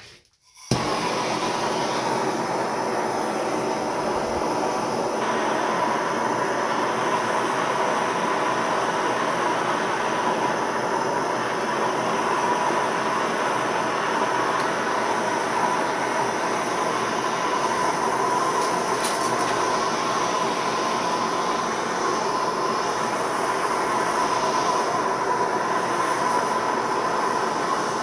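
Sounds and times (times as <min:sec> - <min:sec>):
gas torch flame rushing: 0:00.0 - 0:28.0.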